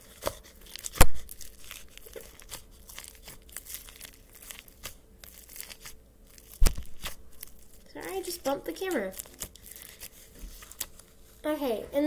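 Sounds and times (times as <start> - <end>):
slime crackling and popping: 0.0 - 11.2.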